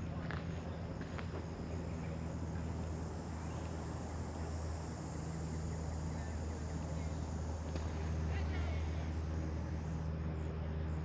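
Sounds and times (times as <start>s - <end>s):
low engine hum: 0.0s - 11.0s
outdoor background noise: 0.0s - 11.0s.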